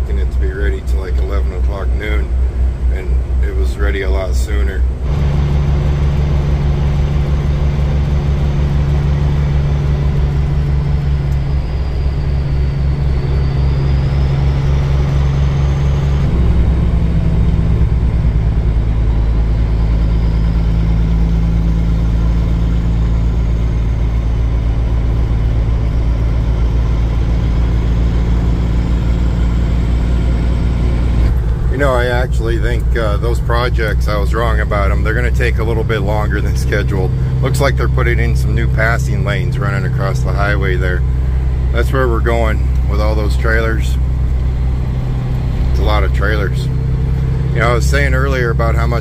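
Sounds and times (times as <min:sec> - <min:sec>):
truck diesel engine driving: 0:00.0 - 0:49.0.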